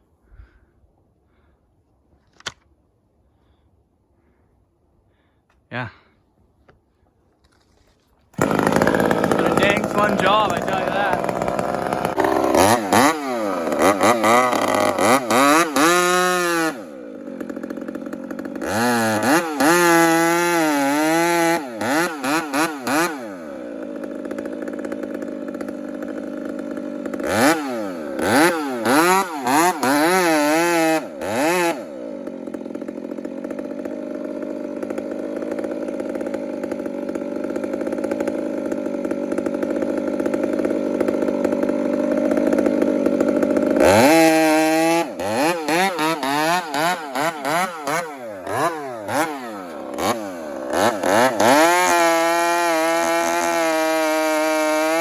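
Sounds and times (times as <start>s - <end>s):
chainsaw revving and idling: 7.7s - 55.0s.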